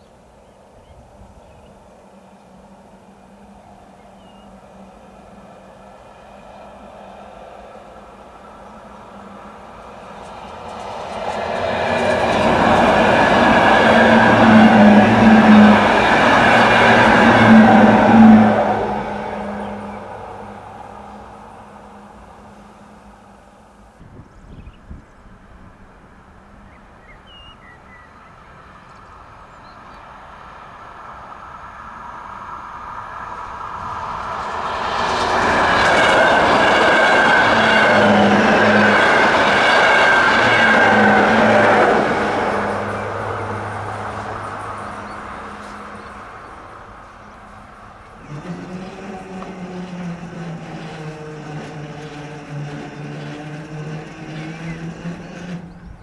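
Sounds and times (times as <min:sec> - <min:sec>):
electric train passing: 0:00.0 - 0:24.0, 0:25.2 - 0:56.0.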